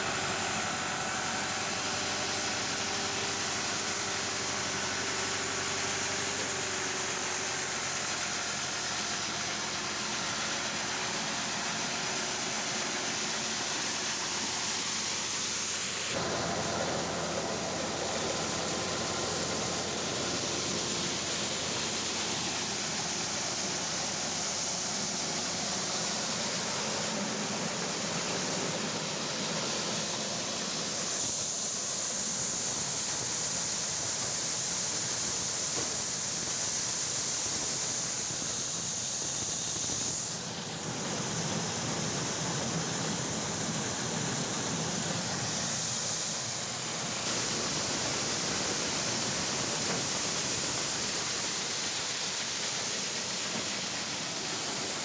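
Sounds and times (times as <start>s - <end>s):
harvesting machine hissing: 0.0s - 55.0s.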